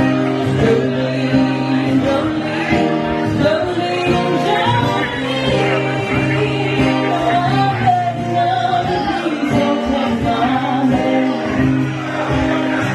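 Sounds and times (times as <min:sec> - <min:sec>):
instrumental backing music: 0:00.0 - 0:12.9
person singing: 0:00.0 - 0:12.9.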